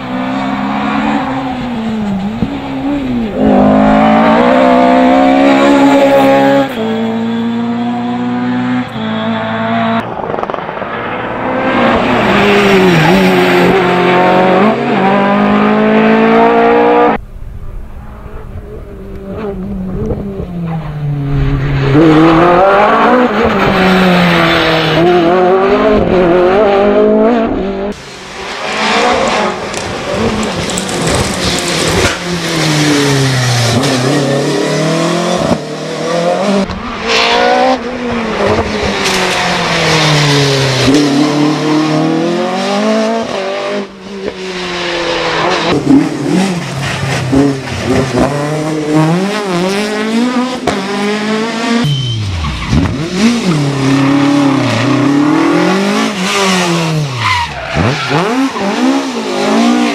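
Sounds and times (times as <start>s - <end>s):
rally car engines revving hard: 0.0s - 17.2s, 19.1s - 59.9s.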